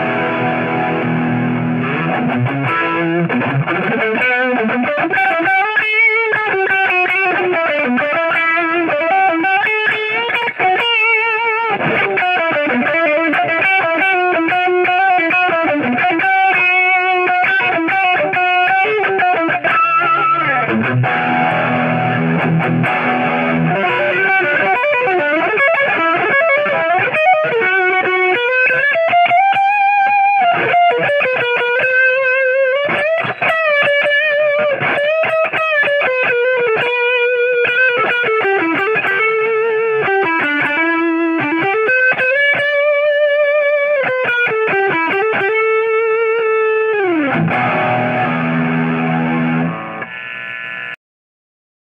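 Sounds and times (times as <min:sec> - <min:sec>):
ringing guitar chord: 0:00.0 - 0:43.1, 0:44.0 - 0:51.0
distorted electric guitar lead: 0:00.0 - 0:51.0.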